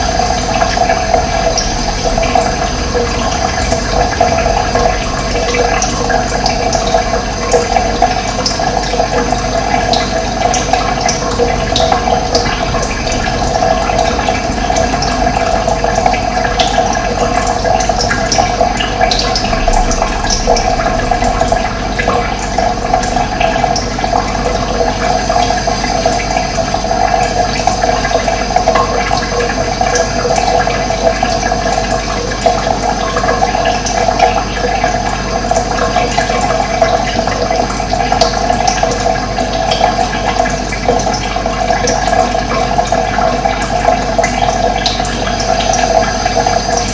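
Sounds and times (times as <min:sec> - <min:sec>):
running water rushing: 0:00.0 - 0:46.9.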